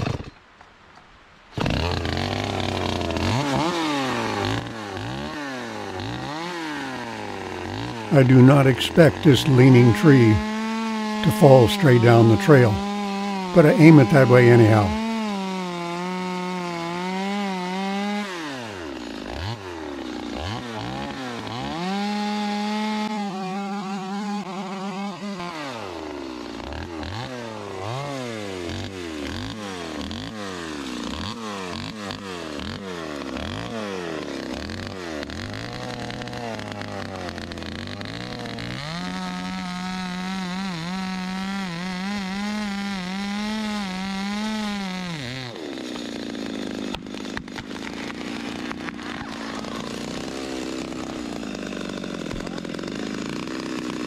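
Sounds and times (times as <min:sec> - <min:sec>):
chainsaw cutting and revving: 0:00.0 - 0:00.6, 0:01.5 - 0:54.0.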